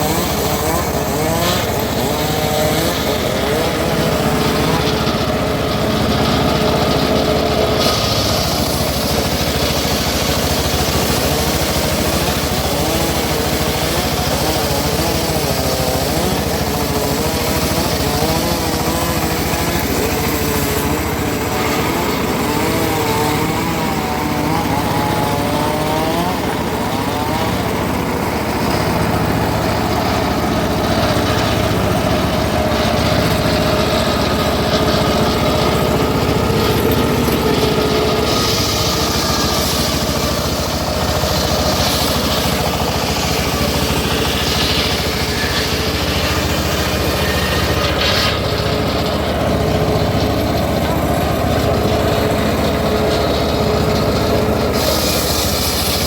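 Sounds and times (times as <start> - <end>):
circular sawmill running: 0.0 - 56.0.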